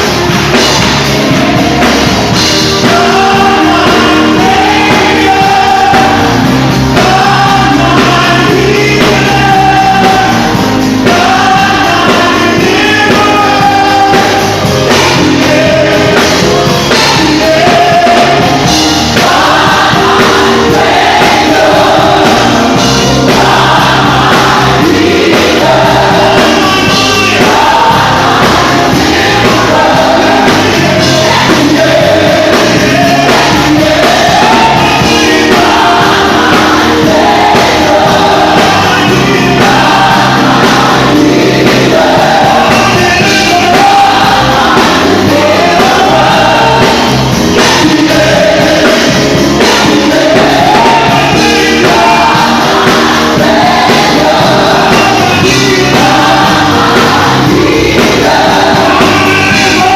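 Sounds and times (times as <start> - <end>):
choir singing gospel music: 0.0 - 59.9
instrumental backing: 0.0 - 59.9.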